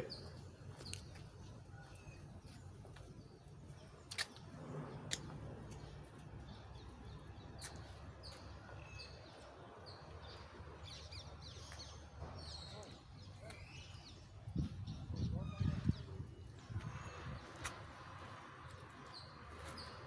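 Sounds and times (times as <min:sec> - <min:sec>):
small birds chirping: 0:00.0 - 0:18.0, 0:18.6 - 0:20.0.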